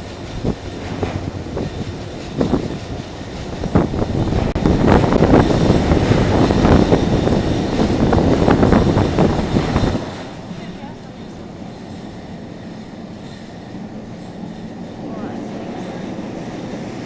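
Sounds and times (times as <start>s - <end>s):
ride car rattling along track: 0.0s - 17.0s.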